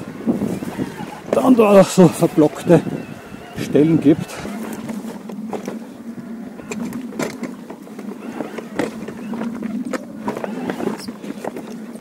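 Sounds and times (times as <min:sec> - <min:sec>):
bike knocking and rattling on rocks: 0:00.0 - 0:12.0
electric bike motor hum: 0:00.0 - 0:12.0.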